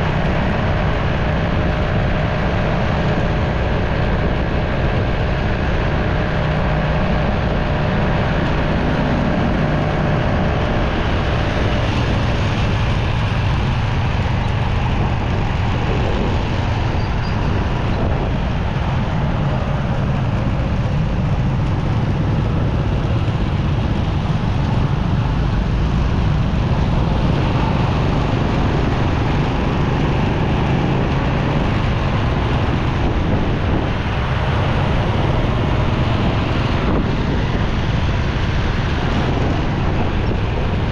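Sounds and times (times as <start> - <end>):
motorcycle engine running: 0.0 - 40.9
road and wind noise: 0.0 - 40.9
traffic: 0.0 - 40.9.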